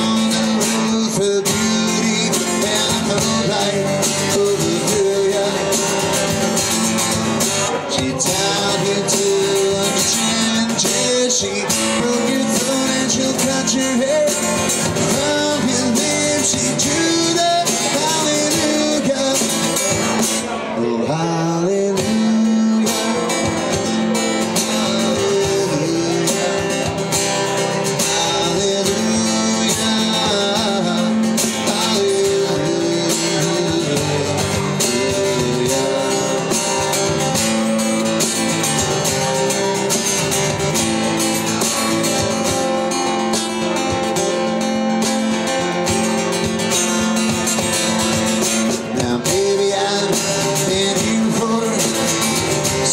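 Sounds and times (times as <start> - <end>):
live band playing guitars: 0.0 - 52.9.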